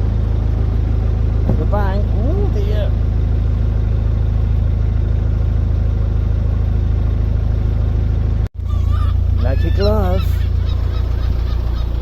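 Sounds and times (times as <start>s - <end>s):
boat engine low throb: 0.0s - 12.0s.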